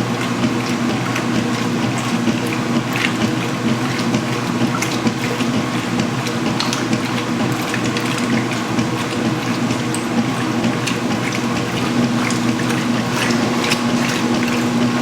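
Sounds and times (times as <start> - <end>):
water rushing into washing machine: 0.0 - 15.0.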